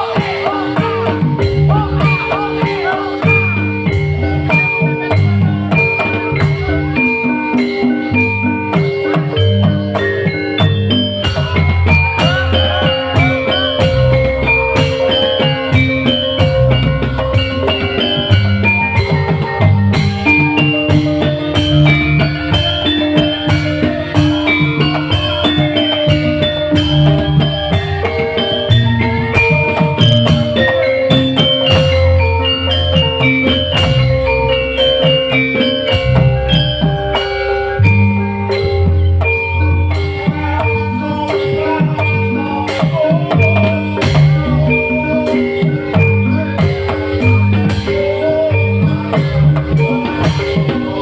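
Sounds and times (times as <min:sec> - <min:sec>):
bass line: 0:00.0 - 0:51.0
drums: 0:00.0 - 0:51.0
high struck melody notes: 0:00.0 - 0:51.0.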